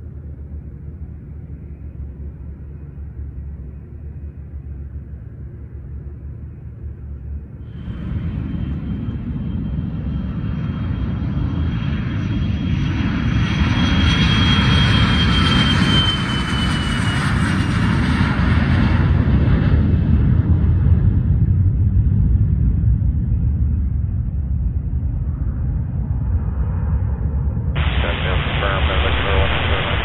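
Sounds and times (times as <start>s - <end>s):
jet engine high whine: 0.0s - 30.0s
jet engine steady rumble: 0.0s - 30.0s.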